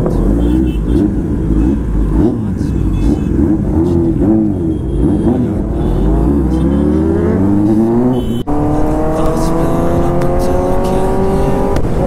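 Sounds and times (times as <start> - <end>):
motorcycle engine accelerating hard: 0.2 - 12.0.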